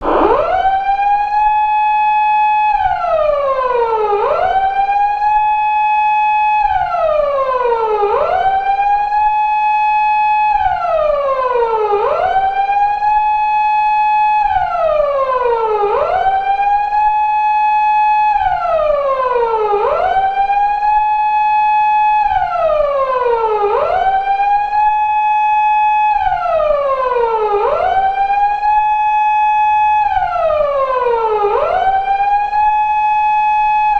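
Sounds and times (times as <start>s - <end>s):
police car siren wailing: 0.0s - 33.9s.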